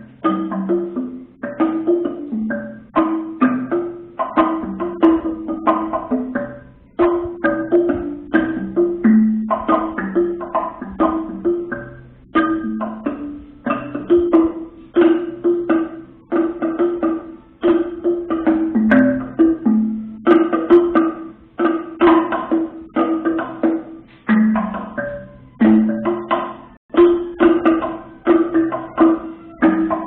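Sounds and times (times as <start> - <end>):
wood-block percussion strikes: 0.0 - 30.0.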